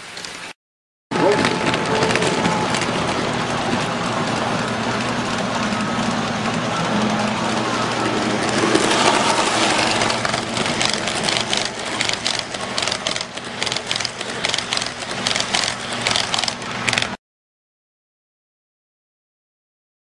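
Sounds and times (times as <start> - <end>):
model train running with motor hum: 1.1 - 17.2
wheels clicking over track: 1.1 - 17.2.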